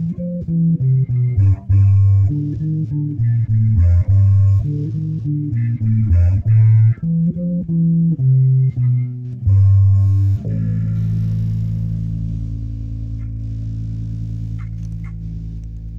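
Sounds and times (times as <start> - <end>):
bass guitar notes: 0.0 - 15.9.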